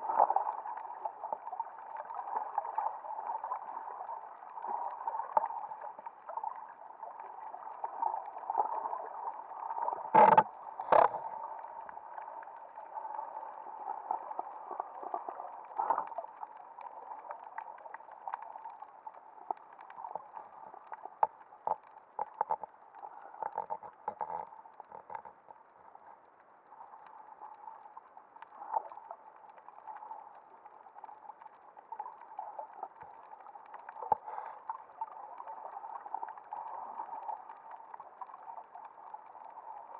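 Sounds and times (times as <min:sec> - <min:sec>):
underwater hiss and gurgle: 0:00.0 - 0:39.9.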